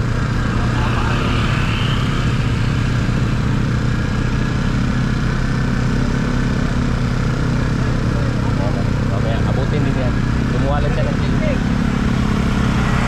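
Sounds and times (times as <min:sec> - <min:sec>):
motorcycle engine running: 0:00.0 - 0:13.0
rush of road noise: 0:00.0 - 0:13.0.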